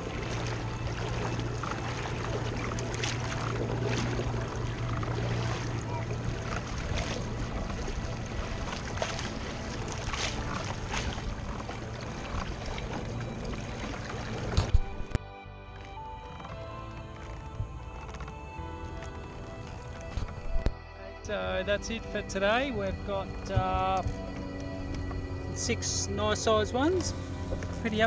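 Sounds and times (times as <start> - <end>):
low steady hum: 0.0 - 28.0
water rushing along hull: 0.0 - 28.0.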